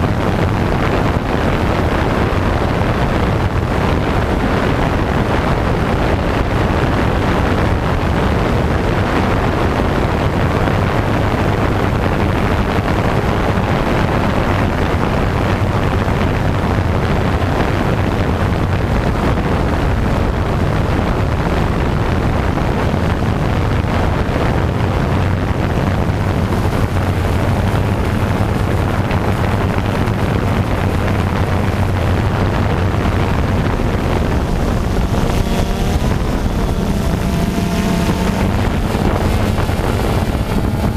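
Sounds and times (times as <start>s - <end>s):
vehicle engine running: 0.0s - 40.9s
wind buffeting microphone: 0.0s - 40.9s.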